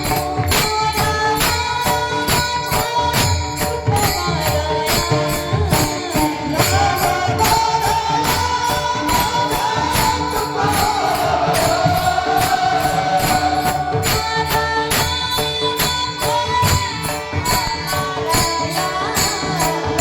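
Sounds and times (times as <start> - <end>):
drums fast beat: 0.0 - 20.0
hand cymbals: 0.0 - 20.0.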